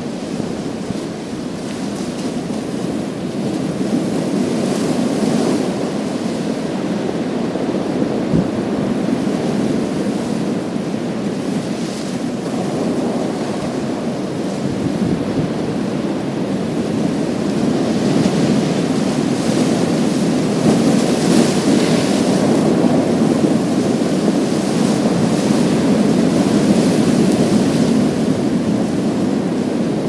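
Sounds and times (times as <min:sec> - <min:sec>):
surf rumble: 0:00.0 - 0:30.0
waves washing over pebbles: 0:00.0 - 0:30.0.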